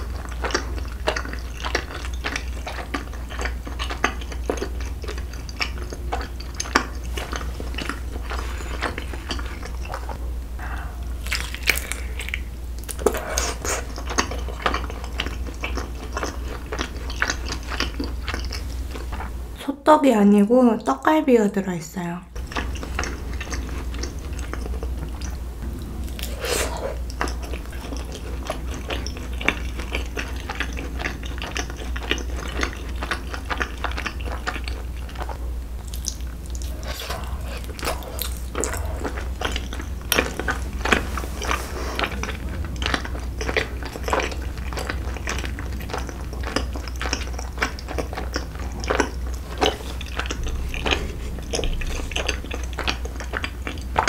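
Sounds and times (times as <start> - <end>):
close chewing and biting: 0.0 - 19.4, 22.4 - 54.0
low hum: 0.0 - 19.6, 22.2 - 54.0.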